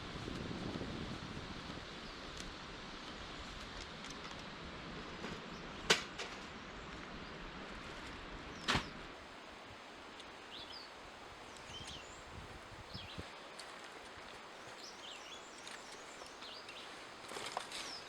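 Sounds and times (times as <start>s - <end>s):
steady woodland hiss: 0.0s - 18.0s.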